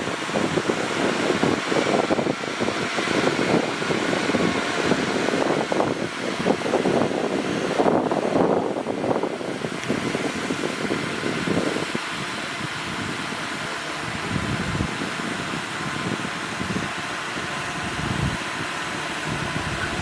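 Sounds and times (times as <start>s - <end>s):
bulldozer pushing soil: 0.0s - 20.0s.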